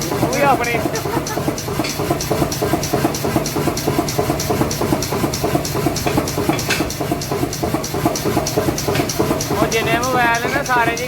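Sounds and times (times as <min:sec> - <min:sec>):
hammer drive humming: 0:00.0 - 0:11.0
power hammer striking: 0:00.0 - 0:11.0.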